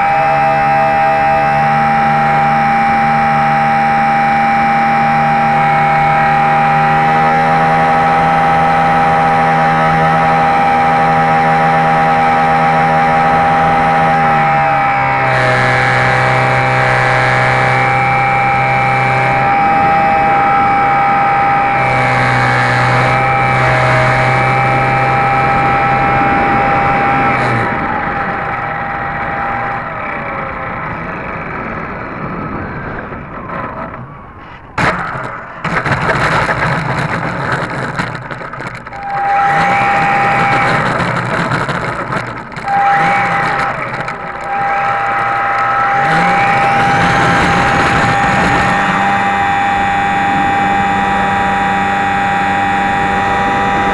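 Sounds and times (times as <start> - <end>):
electric motor and propeller whine: 0.0 - 53.9
wind noise on microphone: 0.0 - 53.9.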